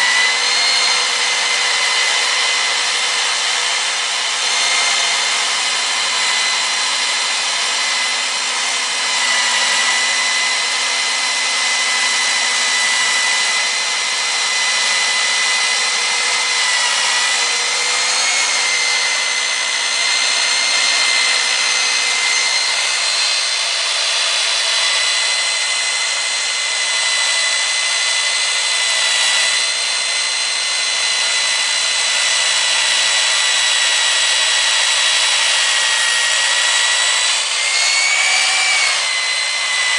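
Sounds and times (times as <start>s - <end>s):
core drill motor whining: 0.0s - 39.9s.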